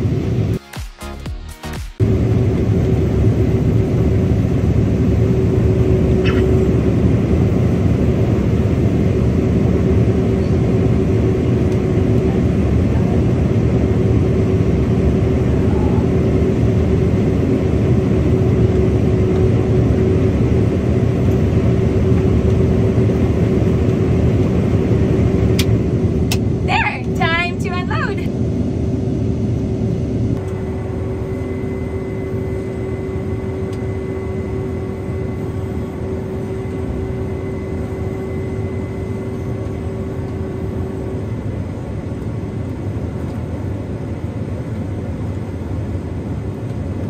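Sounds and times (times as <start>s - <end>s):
combine harvester drone: 0.0s - 47.0s
steady machine whine: 0.0s - 47.0s.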